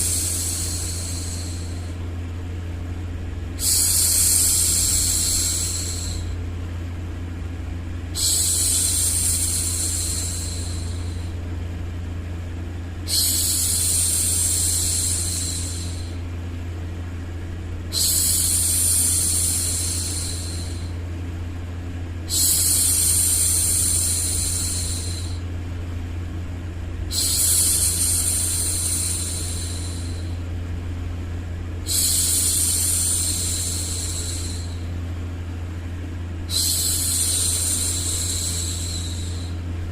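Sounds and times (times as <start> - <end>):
low hum: 0.0 - 39.9
white noise: 0.0 - 39.9.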